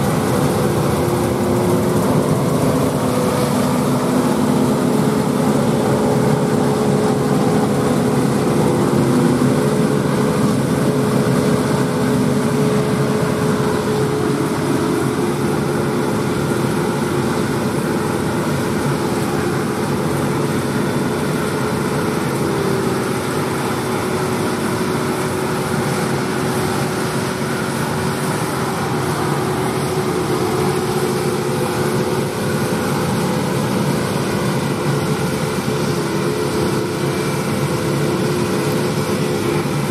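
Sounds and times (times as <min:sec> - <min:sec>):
harvesting machinery noise: 0:00.0 - 0:39.9
tractor diesel engines droning: 0:00.0 - 0:39.9.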